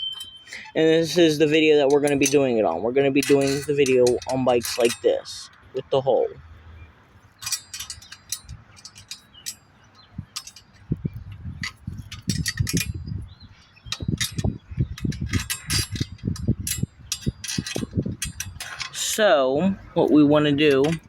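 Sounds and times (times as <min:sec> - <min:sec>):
metal parts clinking: 0:00.0 - 0:05.9, 0:07.2 - 0:19.4, 0:20.6 - 0:21.0.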